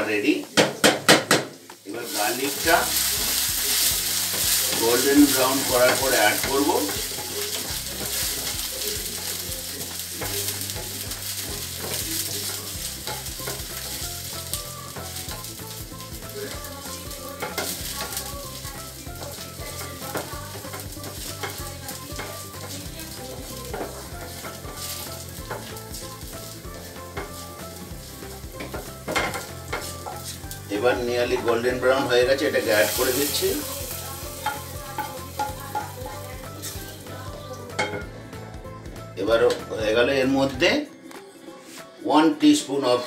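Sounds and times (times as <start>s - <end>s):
garlic sizzling in hot oil: 0.0s - 38.1s
utensil tapping a pan: 0.5s - 36.8s, 37.7s - 38.1s.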